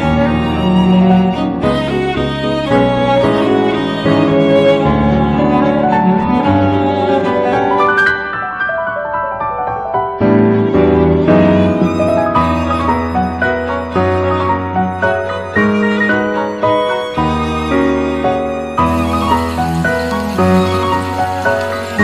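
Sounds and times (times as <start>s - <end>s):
bowed strings: 0.0s - 8.4s, 10.2s - 22.0s
piano: 0.0s - 22.0s.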